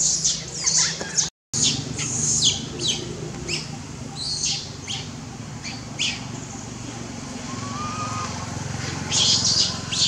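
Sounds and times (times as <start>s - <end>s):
bird chirps: 0.0s - 8.4s
distant engine hum: 0.0s - 10.0s.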